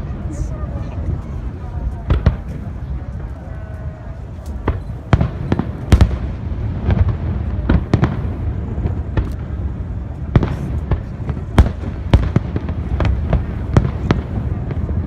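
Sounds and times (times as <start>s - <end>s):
fireworks bangs: 0.0s - 3.4s, 4.2s - 15.0s.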